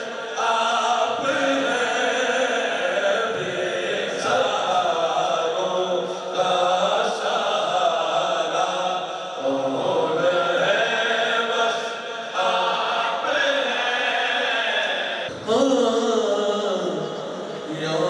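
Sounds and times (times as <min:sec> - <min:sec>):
man singing through loudspeakers: 0:00.0 - 0:18.0.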